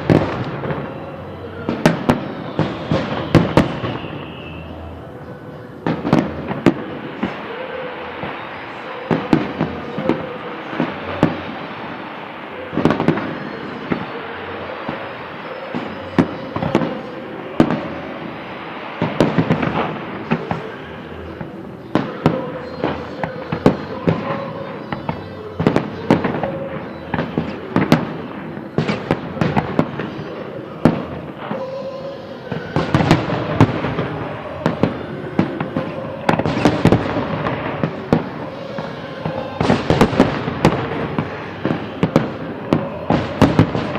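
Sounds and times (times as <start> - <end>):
firework bangs: 0.0 - 43.9
fireworks crackling: 0.0 - 43.9.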